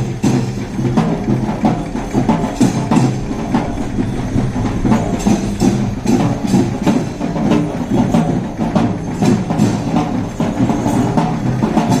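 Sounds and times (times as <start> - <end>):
music with percussive beat: 0.0 - 12.0.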